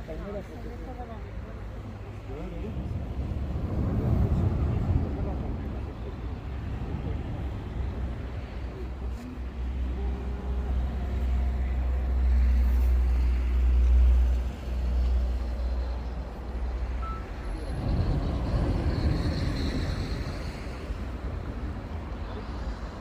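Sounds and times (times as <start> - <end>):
heavy vehicle engine rumble: 0.0 - 23.0
traffic noise: 0.0 - 23.0.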